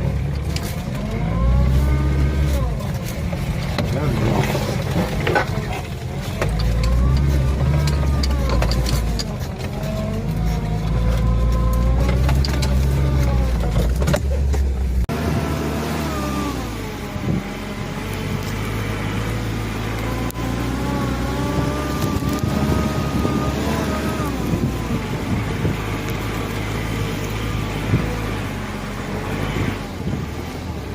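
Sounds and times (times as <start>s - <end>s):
off-road vehicle engine revving: 0.0s - 30.9s.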